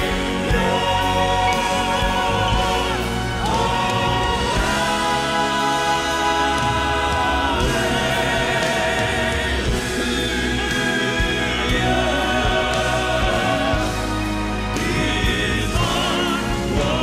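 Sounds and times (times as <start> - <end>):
band accompaniment: 0.0 - 17.0
male quartet singing in harmony: 0.0 - 17.0.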